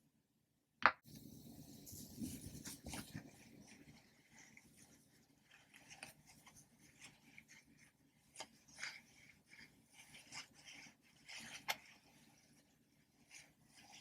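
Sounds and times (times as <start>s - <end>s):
toys rubbing and handling: 1.3s - 14.0s.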